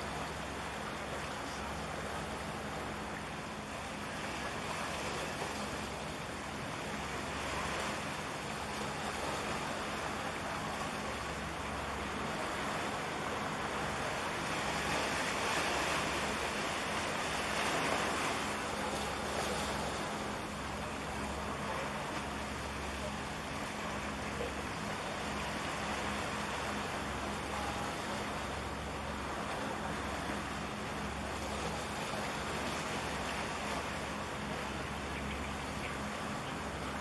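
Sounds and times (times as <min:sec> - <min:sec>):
waves washing on shore: 0:00.0 - 0:37.0.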